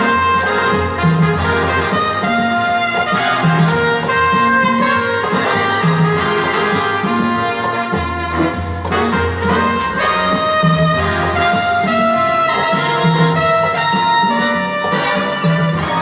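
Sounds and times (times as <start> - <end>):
electronic keyboard brass melody: 0.0 - 16.0
keyboard bass and accompaniment: 0.0 - 16.0.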